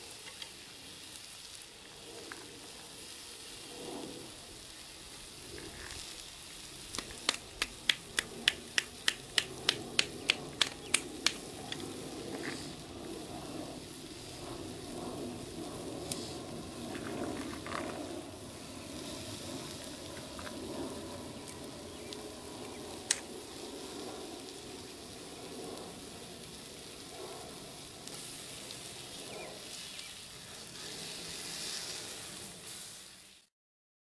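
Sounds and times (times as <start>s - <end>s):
fire crackling: 0.0s - 33.5s
steak sizzling in a skillet: 0.0s - 33.5s.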